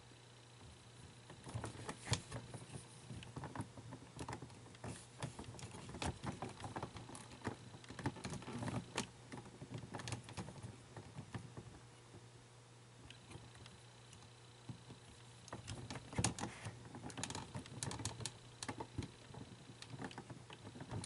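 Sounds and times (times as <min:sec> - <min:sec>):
small plastic parts clicking and rattling: 0:00.6 - 0:12.2, 0:13.0 - 0:21.0.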